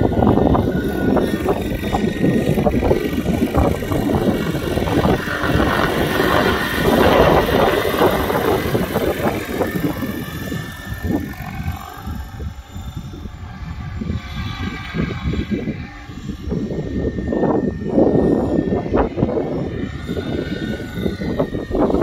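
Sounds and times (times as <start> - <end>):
helicopter flying past: 0.0 - 22.0.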